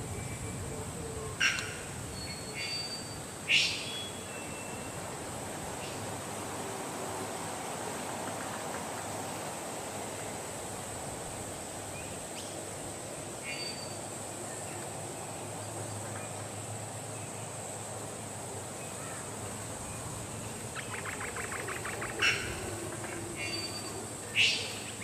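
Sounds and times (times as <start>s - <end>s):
forest background hiss: 0.0s - 25.0s.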